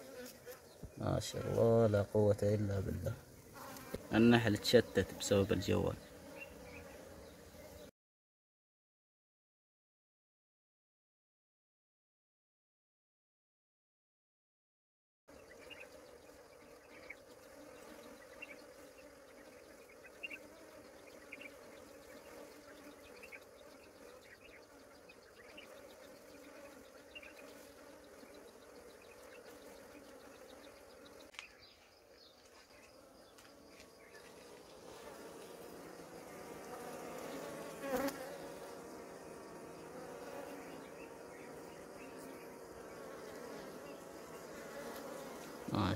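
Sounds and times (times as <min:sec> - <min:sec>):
honeybees humming: 0:00.0 - 0:07.9, 0:15.3 - 0:45.9.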